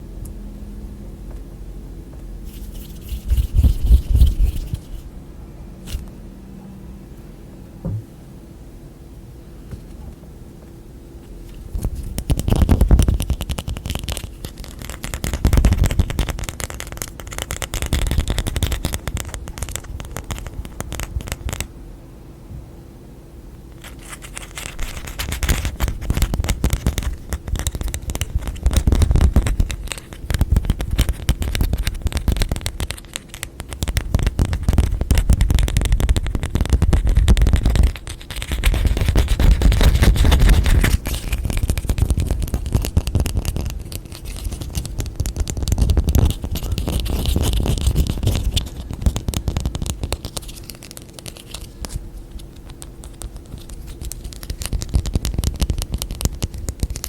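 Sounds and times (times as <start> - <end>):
tapping and scratching on objects: 2.5 - 5.0, 11.5 - 21.7, 23.7 - 57.0.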